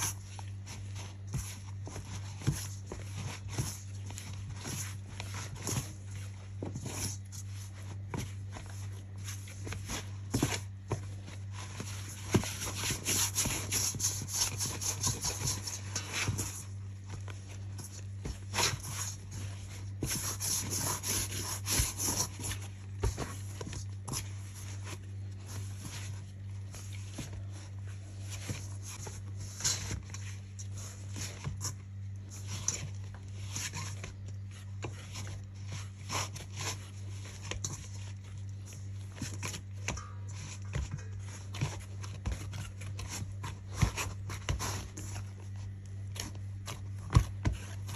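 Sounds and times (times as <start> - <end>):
dough kneaded in metal bowl: 0.0 - 47.9
steady low hum: 0.0 - 47.9.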